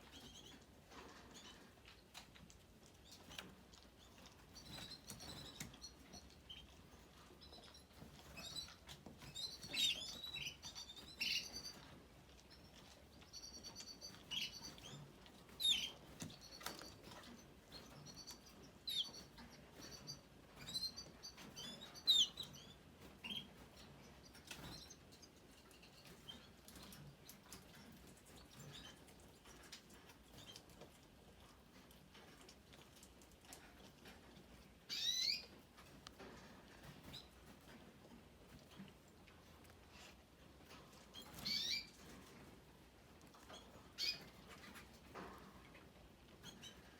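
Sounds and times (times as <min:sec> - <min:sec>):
young canaries chirping: 0:00.0 - 0:32.4, 0:34.0 - 0:37.8, 0:40.0 - 0:42.4, 0:43.3 - 0:45.3, 0:46.3 - 0:46.9
birds tapping and pecking in cage: 0:00.0 - 0:46.9.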